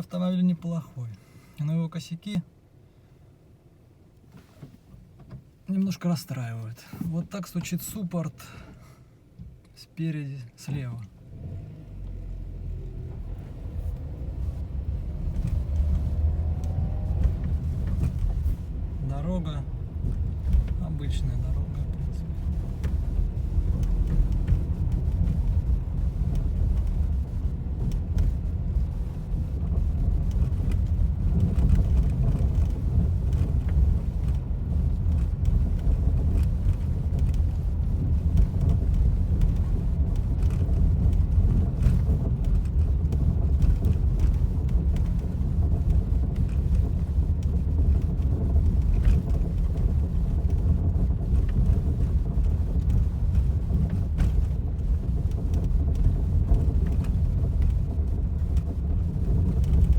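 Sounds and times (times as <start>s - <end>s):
road and tyre noise in car: 0.0s - 59.9s.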